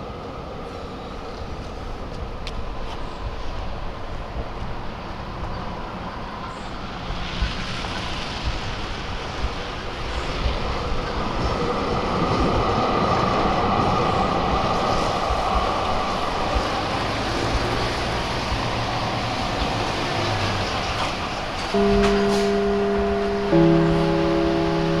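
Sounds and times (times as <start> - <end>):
street traffic: 0.0 - 25.0
tram passing: 0.0 - 25.0.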